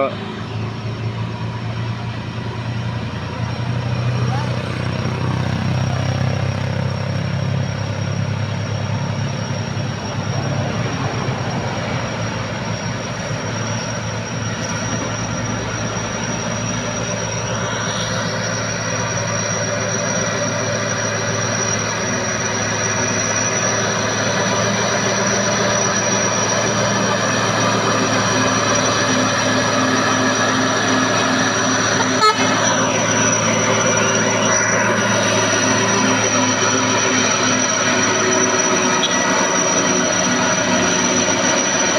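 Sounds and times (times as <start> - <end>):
steady high whine: 0.0 - 41.9
truck diesel engine under load: 0.0 - 41.9.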